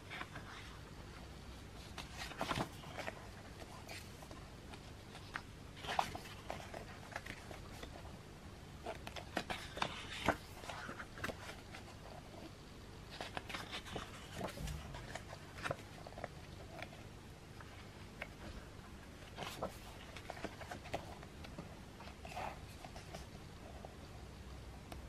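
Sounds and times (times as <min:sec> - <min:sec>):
pages turning and rustling: 0:00.0 - 0:00.8, 0:01.8 - 0:08.2, 0:08.8 - 0:12.5, 0:13.1 - 0:23.9.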